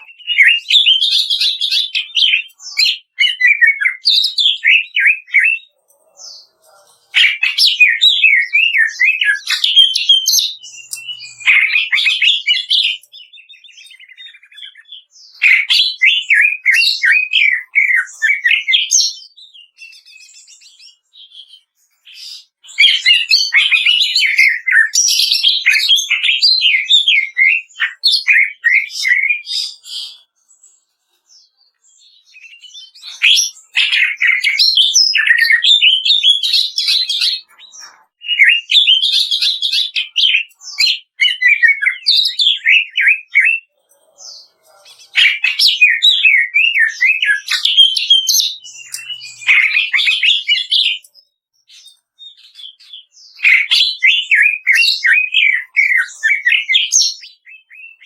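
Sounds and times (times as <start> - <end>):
bird singing chattering notes: 0.0 - 58.0.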